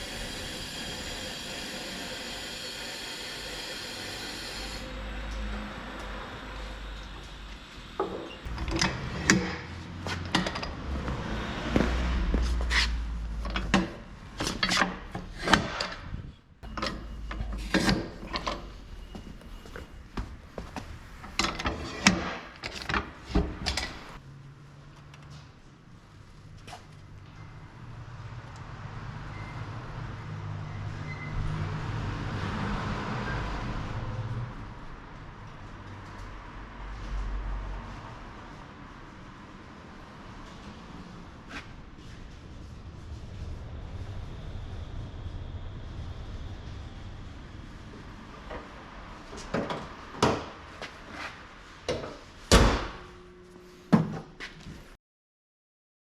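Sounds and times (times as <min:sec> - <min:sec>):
road noise: 0:00.0 - 0:54.7
vehicle engine rumble: 0:04.8 - 0:21.6, 0:23.1 - 0:51.7.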